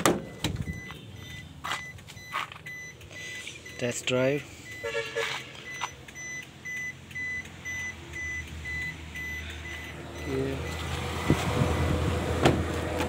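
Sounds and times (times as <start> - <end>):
dashboard warning chime beeping: 0.0 - 11.0.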